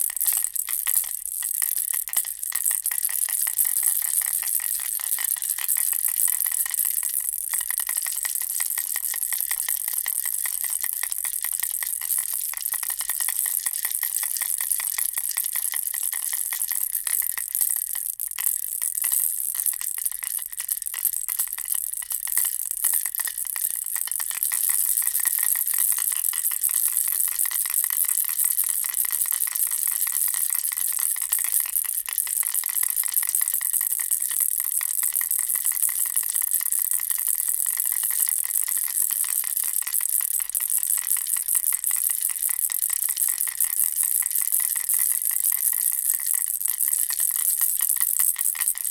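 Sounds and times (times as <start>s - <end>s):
baby rattle shaken: 0.0s - 48.9s.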